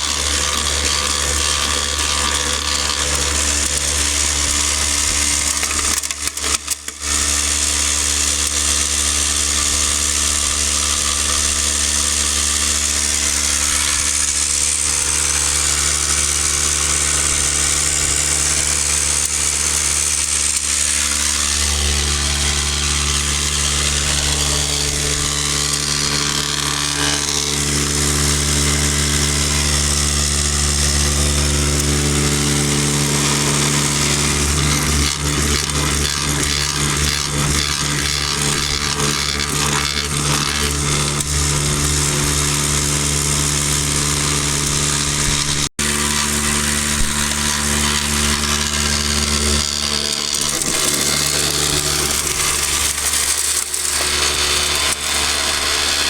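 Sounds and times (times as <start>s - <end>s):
motor hum: 0.0s - 56.0s
rattling hiss of vibrating unit: 0.0s - 56.0s.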